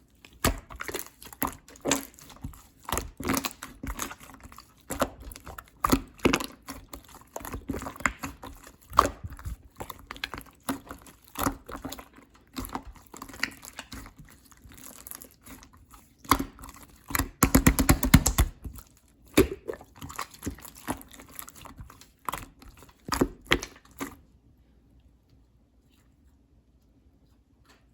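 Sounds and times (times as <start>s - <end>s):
slime squelching and clicking: 0.0s - 24.3s.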